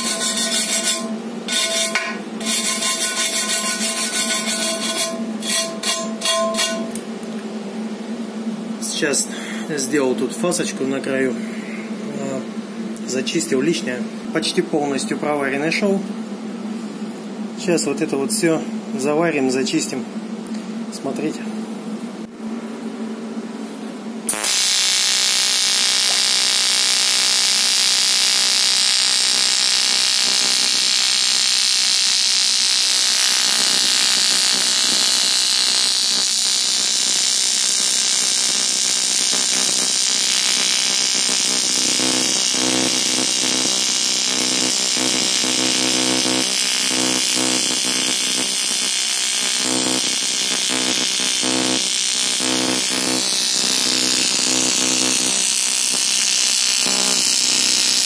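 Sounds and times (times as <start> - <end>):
welding arc buzz: 0.0 - 15.9, 23.6 - 58.0
low flickering buzz: 0.0 - 58.0.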